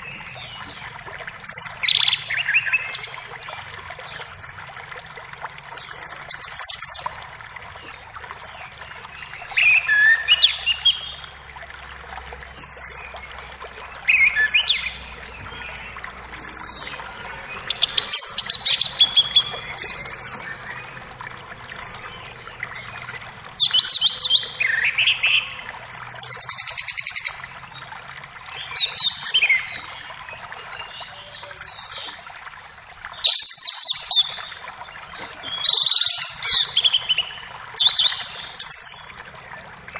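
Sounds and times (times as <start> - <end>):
forest birds singing: 0.0 - 4.6, 5.7 - 32.2, 33.1 - 39.9
faint rush of a creek: 0.0 - 39.9.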